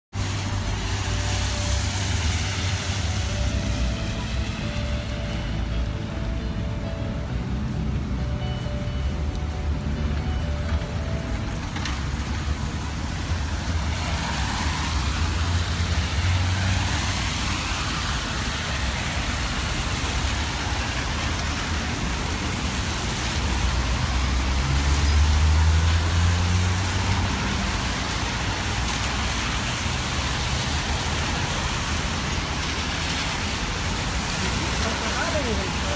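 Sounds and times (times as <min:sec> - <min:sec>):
engine rumble of passing vehicles: 0:00.1 - 0:35.9
tyres hissing on wet road: 0:00.1 - 0:35.9.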